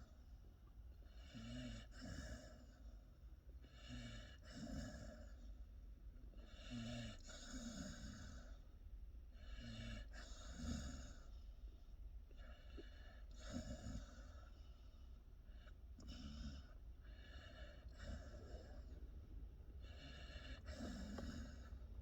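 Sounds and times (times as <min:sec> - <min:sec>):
puppy snoring: 0:00.9 - 0:05.7, 0:06.3 - 0:11.7, 0:12.3 - 0:22.0.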